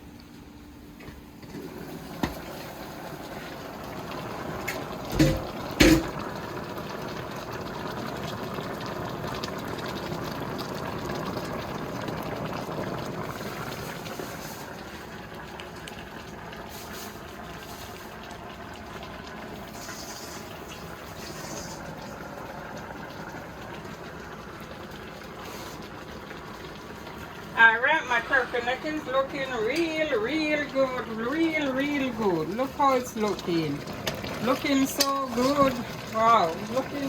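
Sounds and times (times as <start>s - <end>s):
pot bubbling at a boil: 0.0s - 37.0s.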